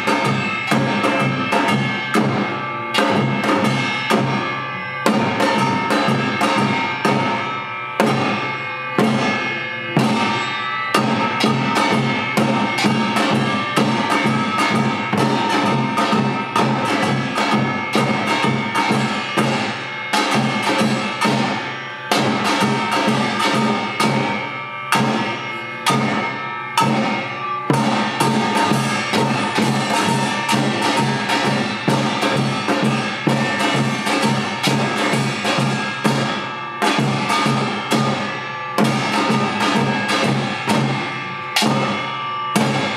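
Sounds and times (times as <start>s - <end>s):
metal gongs ringing: 0.0s - 42.9s
percussion ensemble playing: 0.0s - 42.9s.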